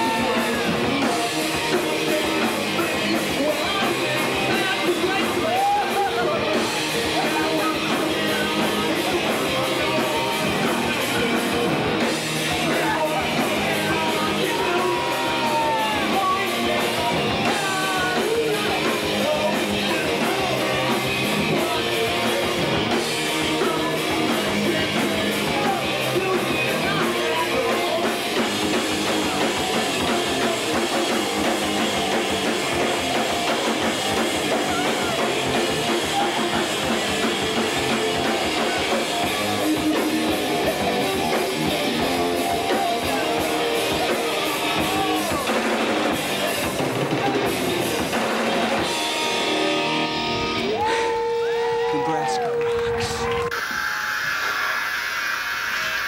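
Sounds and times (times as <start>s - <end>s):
person singing: 0.0s - 48.0s
rock music with guitar and drums: 0.0s - 51.9s.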